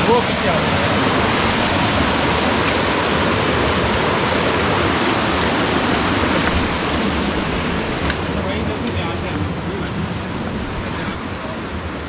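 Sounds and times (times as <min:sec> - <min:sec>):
rushing white water: 0:00.0 - 0:12.0.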